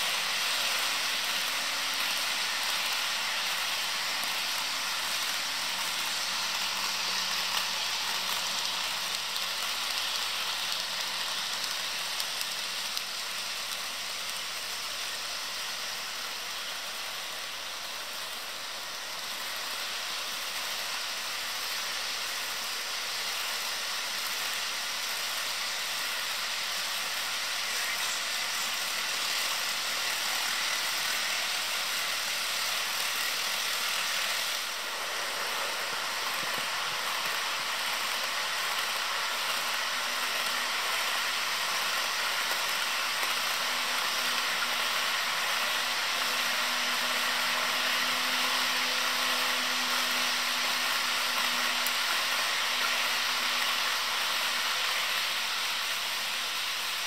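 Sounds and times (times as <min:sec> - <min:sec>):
model train wheels whirring on rails: 0:00.0 - 0:57.0.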